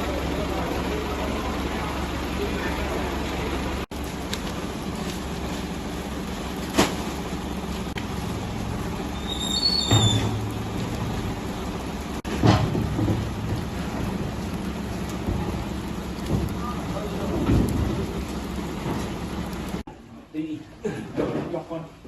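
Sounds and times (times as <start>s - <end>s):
pouring water: 0.0s - 19.8s.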